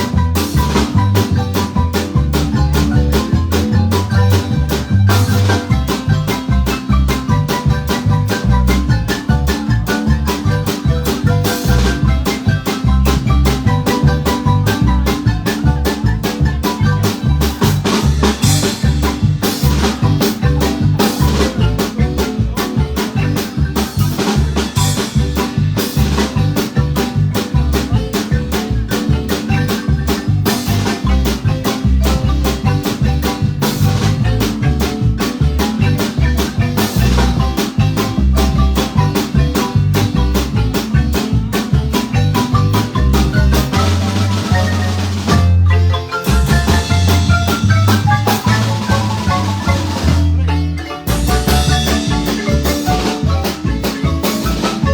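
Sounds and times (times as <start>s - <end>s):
bass line: 0.0s - 54.9s
drum kit beat: 0.0s - 54.9s
marimba notes: 0.0s - 54.9s.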